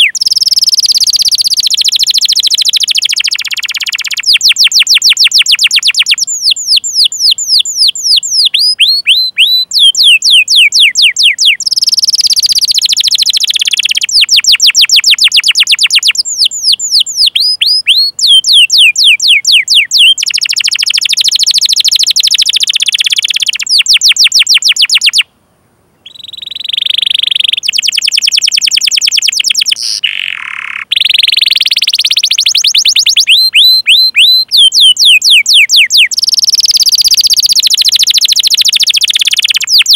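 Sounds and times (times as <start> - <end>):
canary singing chirps and trills: 0.0 - 25.3, 26.0 - 39.9.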